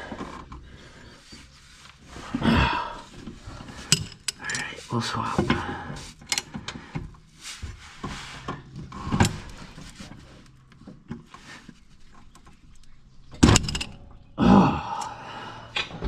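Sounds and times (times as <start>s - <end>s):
hand tools clicking and clanking: 0.0s - 7.3s, 8.0s - 14.2s, 14.8s - 16.0s.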